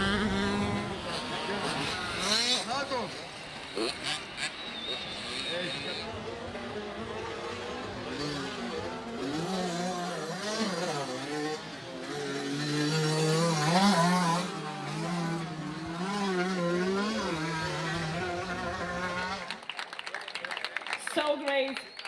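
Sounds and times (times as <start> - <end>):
motocross bike engines racing: 0.0 - 19.8.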